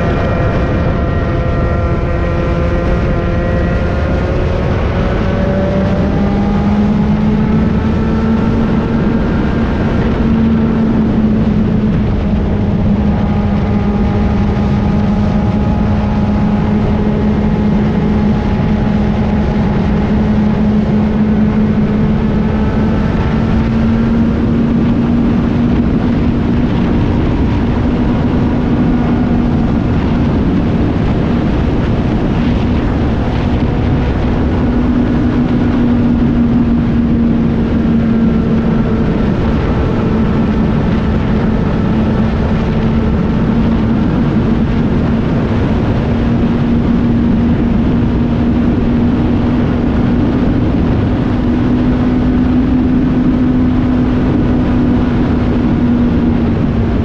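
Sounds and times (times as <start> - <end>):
kart engine revving high: 0.0 - 57.0.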